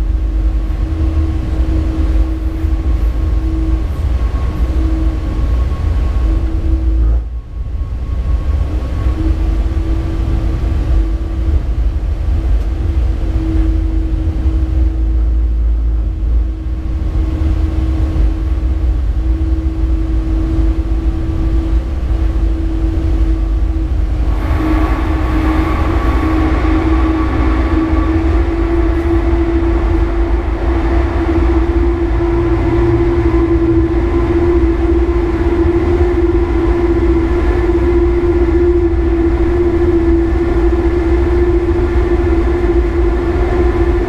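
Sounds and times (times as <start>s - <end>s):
electric hum: 0.0s - 44.0s
locomotive low rumble: 0.0s - 44.0s.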